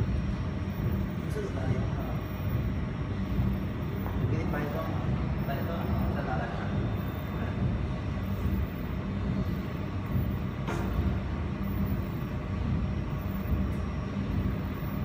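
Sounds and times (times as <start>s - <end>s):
machine humming with high whine: 0.0s - 15.0s.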